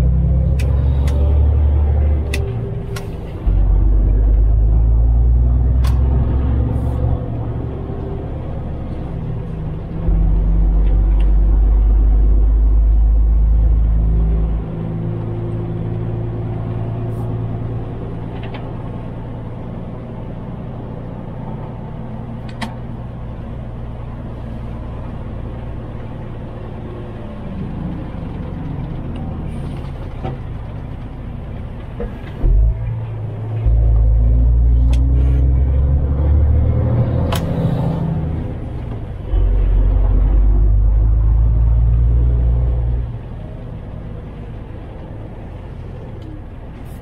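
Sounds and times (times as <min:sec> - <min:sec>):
truck engine and road noise: 0:00.0 - 0:47.0.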